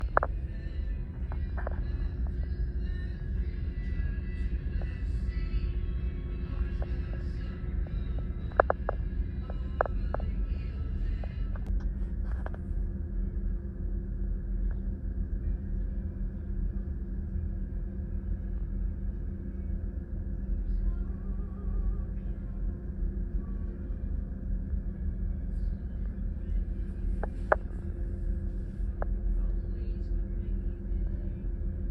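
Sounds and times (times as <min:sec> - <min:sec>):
faint background music: 0:00.0 - 0:31.9.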